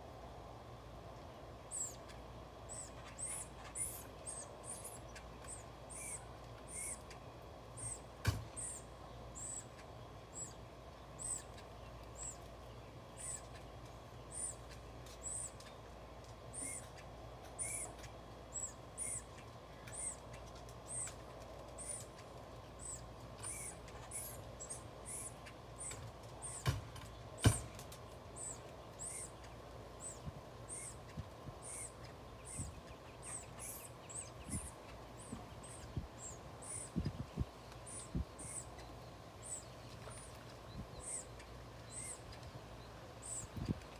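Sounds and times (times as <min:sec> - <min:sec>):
bird chirping: 0:01.4 - 0:43.9.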